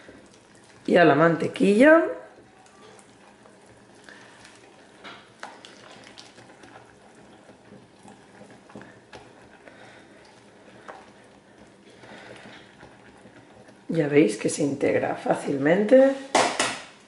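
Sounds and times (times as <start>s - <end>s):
whisk stirring wet mixture: 0.0s - 15.9s.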